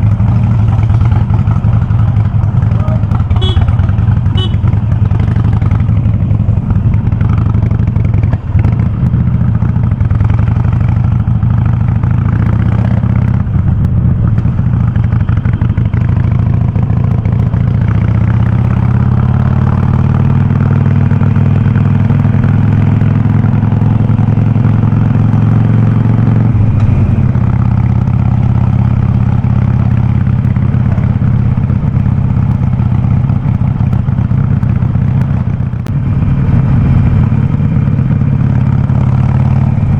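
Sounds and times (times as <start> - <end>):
motorcycle engine running deep: 0.0 - 39.9.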